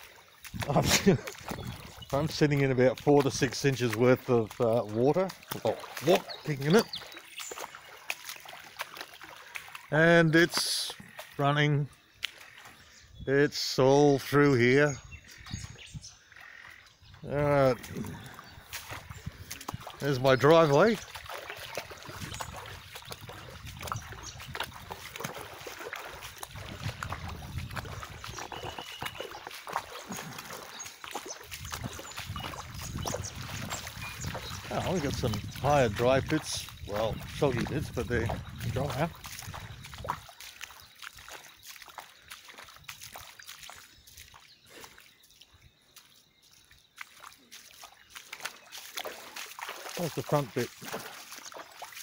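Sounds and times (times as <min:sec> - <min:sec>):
footsteps splashing through water: 0:00.0 - 0:52.0.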